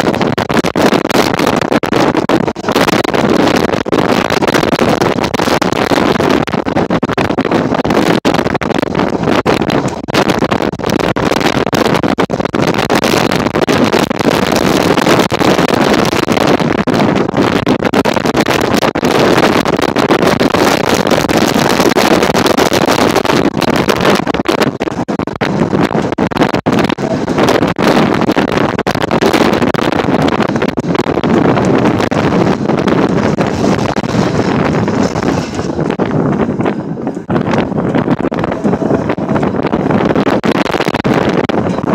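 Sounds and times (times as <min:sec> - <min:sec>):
short knocks and buffets: 0:00.0 - 0:41.9
tram running along track: 0:00.0 - 0:41.9
wind rushing over microphone: 0:00.0 - 0:41.9.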